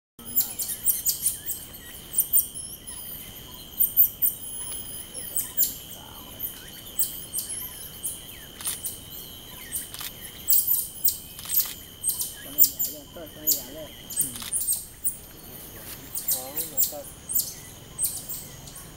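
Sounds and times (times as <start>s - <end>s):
high insect drone: 0.2s - 18.9s.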